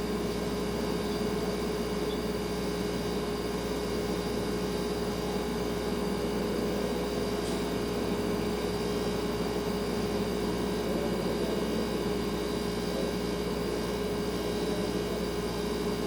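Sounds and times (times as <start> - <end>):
refrigerator humming: 0.0 - 16.0.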